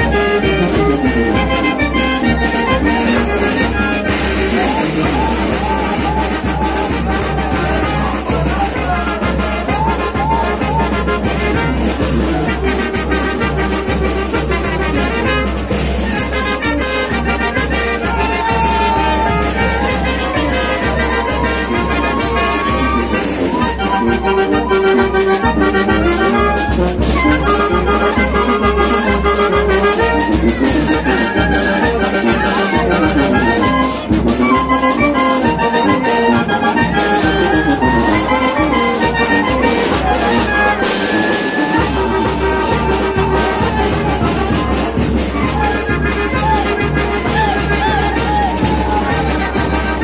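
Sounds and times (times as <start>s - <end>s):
steady drum beat: 0.0s - 24.3s, 25.0s - 50.0s
brass band playing dance tune: 0.0s - 50.0s.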